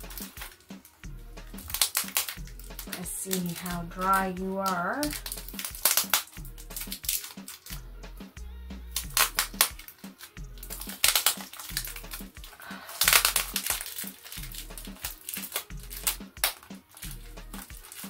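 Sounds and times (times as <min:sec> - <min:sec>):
plastic wrapping crinkling: 0:00.0 - 0:01.0, 0:01.6 - 0:07.8, 0:09.0 - 0:18.0
background music with bass beat: 0:00.0 - 0:18.0.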